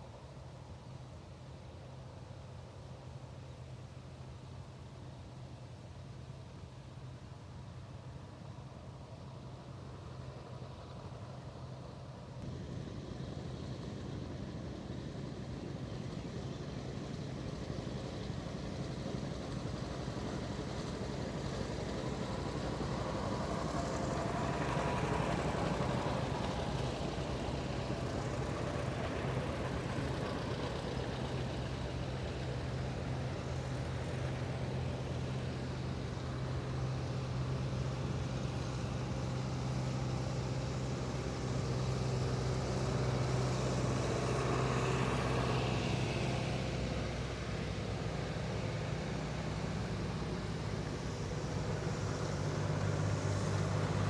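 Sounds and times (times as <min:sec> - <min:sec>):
tractor engines driving past: 0:00.0 - 0:54.0.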